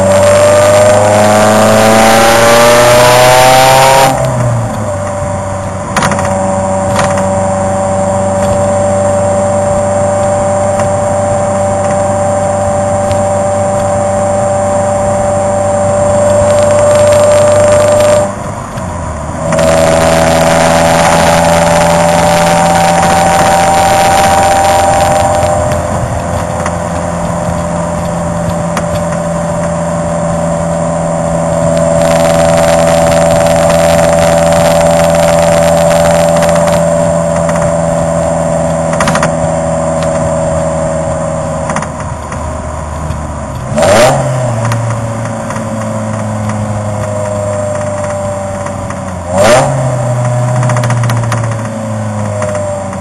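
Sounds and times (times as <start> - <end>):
engine revving: 0.0 - 18.5, 19.1 - 53.0
car engine exhaust note: 0.0 - 53.0.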